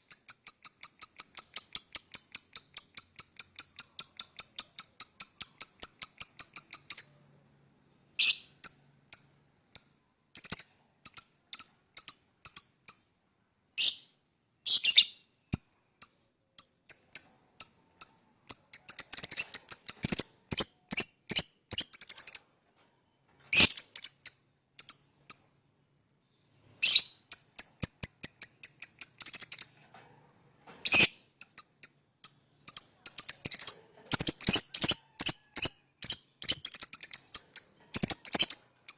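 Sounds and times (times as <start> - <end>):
lovebird chirping: 0.0 - 7.3, 8.0 - 13.2, 13.8 - 22.6, 23.4 - 25.6, 26.2 - 29.8, 30.8 - 38.9.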